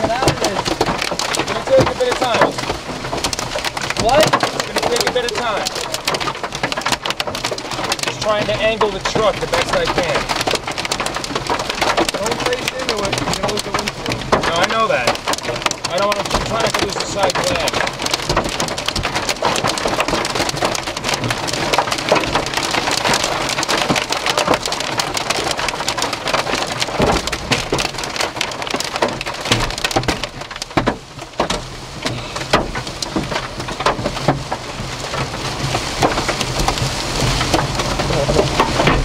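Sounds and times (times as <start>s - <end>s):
hailstones knocking on roof and glass: 0.0s - 39.0s
heavy rain drumming on a vehicle: 0.0s - 39.0s.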